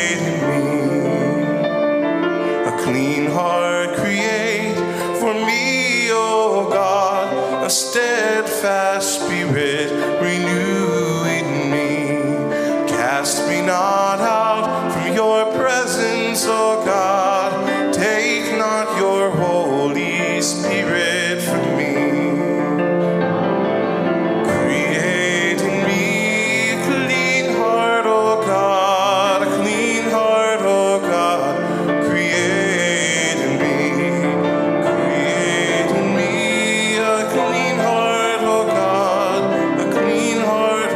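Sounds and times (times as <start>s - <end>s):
person singing with vibrato: 0.0s - 40.9s
sustained instrumental chords: 0.0s - 40.9s.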